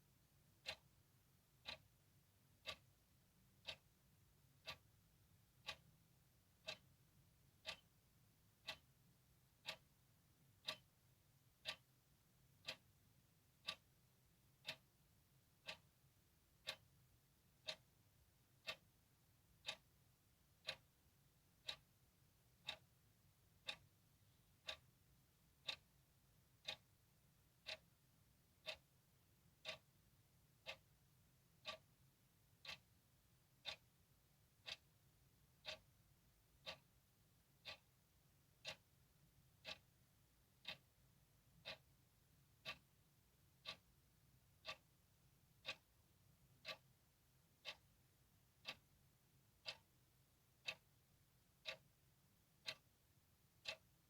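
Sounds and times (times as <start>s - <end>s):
clock ticking: 0.5s - 54.0s.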